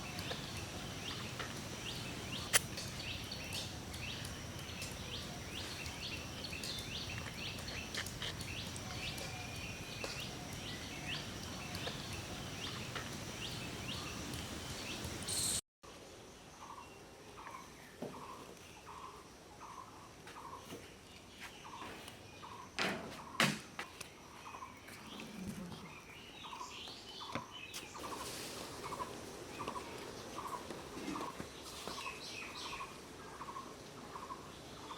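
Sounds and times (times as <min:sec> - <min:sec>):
birds chirping: 0:00.0 - 0:15.6, 0:16.6 - 0:34.9.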